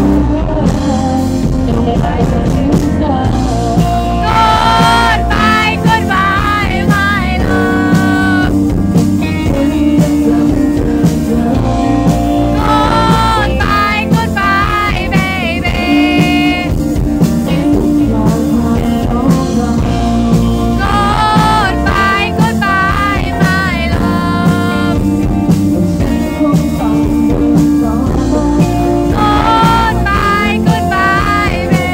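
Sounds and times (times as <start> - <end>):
electric bass: 0.0 - 31.9
person singing: 0.0 - 31.9
strummed guitar: 0.0 - 31.9.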